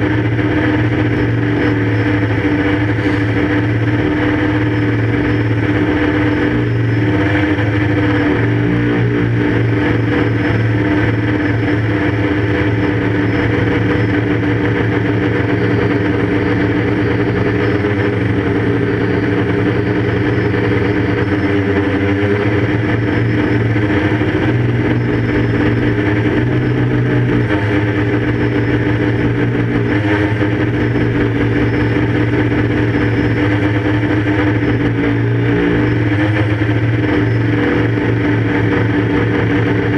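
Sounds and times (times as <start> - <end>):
quadcopter motors droning: 0.0 - 39.9.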